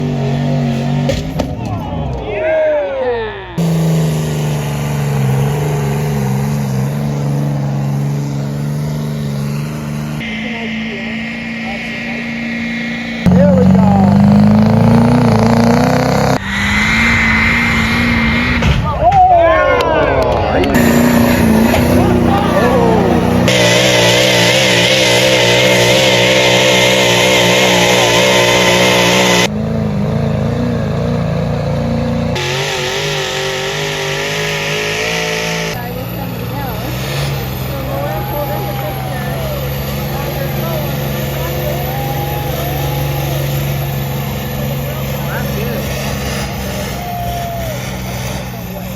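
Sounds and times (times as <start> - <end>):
truck engine droning: 0.0 - 48.9.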